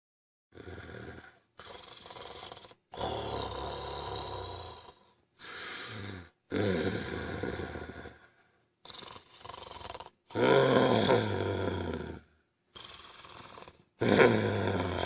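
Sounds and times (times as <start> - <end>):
loud growling snoring: 0.5 - 15.0.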